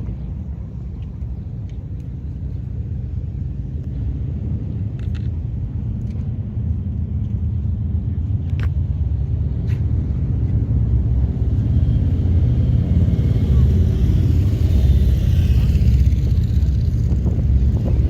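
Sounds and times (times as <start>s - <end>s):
vehicle rumbling in motion: 0.0s - 18.0s.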